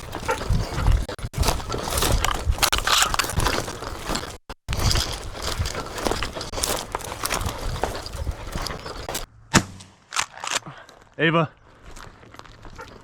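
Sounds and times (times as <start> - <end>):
footsteps crunching on gravel: 0.0 - 13.0.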